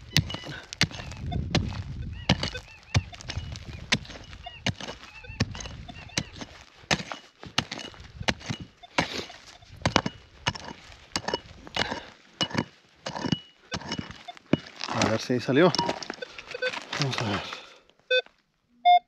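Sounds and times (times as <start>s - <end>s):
pick striking stony ground: 0.0s - 17.5s.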